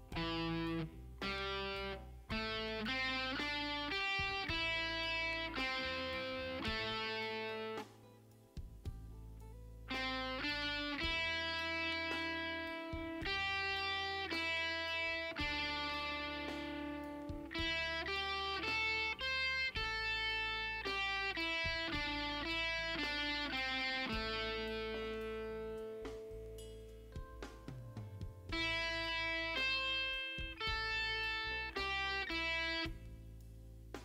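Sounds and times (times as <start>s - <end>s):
electric guitar lead line: 0.0s - 8.1s, 9.8s - 33.3s.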